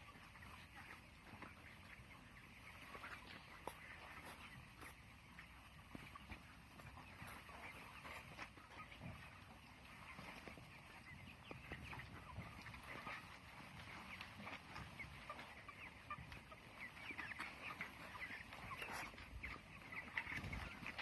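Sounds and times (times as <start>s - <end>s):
chickens cheeping and clucking: 0.0s - 21.0s.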